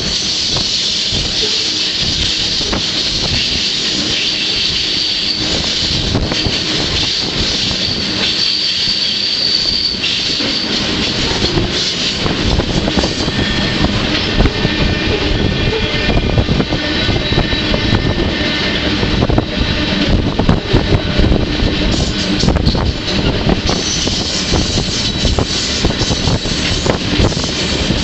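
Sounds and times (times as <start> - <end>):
freight train rumble and rattle: 0.0 - 28.0
high-pitched wheel squeal: 0.0 - 28.0.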